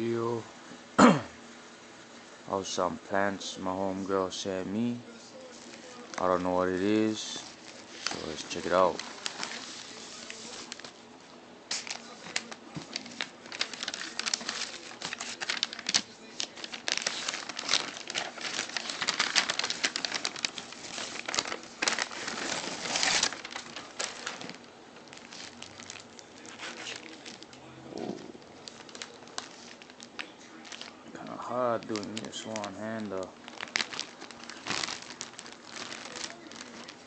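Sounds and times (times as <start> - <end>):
plastic and paper packaging crinkling: 3.4 - 11.0, 11.7 - 37.0.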